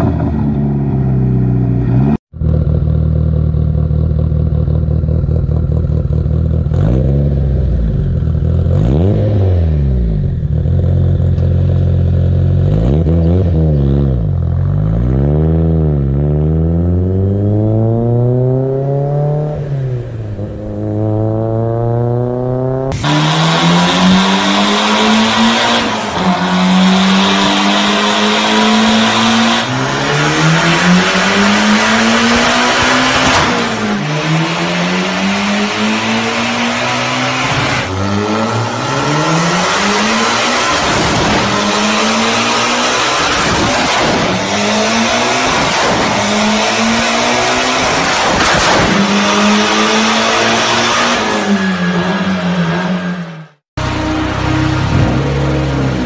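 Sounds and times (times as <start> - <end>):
car engine accelerating through gears: 0.0 - 56.0.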